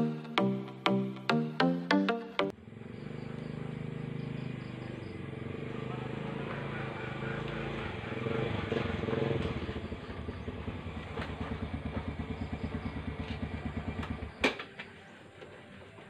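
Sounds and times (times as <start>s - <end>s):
motorcycle engine idling: 2.5s - 16.0s.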